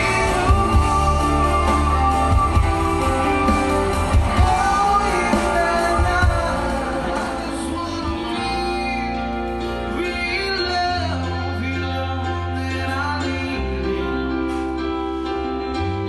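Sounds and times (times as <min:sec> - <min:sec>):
live band playing: 0:00.0 - 0:16.0
person singing: 0:00.0 - 0:16.0.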